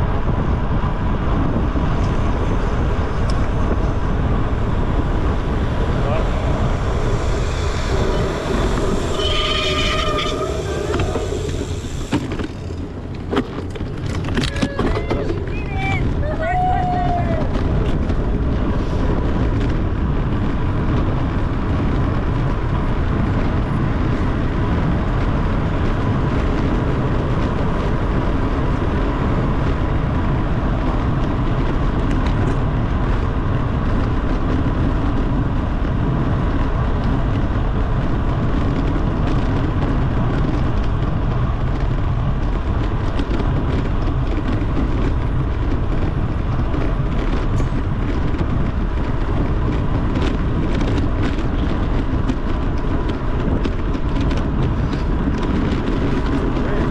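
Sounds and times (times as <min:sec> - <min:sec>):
tyre noise on road: 0:00.0 - 0:56.9
wind rushing over microphone: 0:00.0 - 0:56.9.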